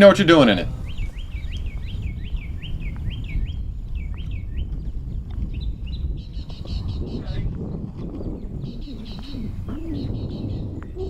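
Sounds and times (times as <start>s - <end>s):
bird chirping: 0.0s - 11.0s
steady low rumble: 0.0s - 11.0s.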